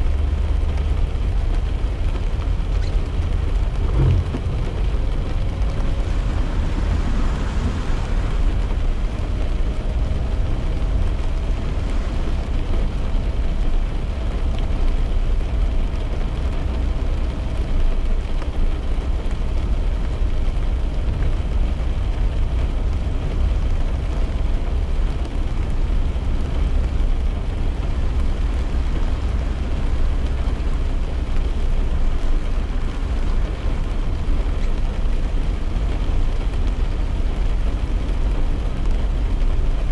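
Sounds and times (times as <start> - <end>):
faint engine hum: 0.0 - 39.9
rain hissing on car: 0.0 - 39.9
tyres rumbling on road: 0.0 - 39.9.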